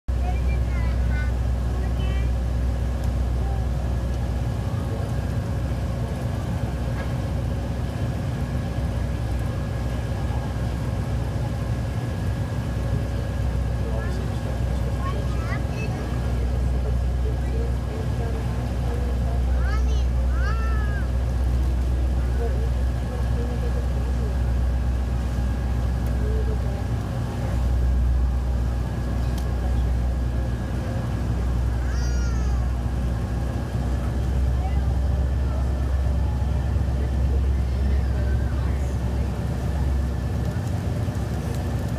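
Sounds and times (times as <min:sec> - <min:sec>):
boat engine droning: 0:00.1 - 0:41.9.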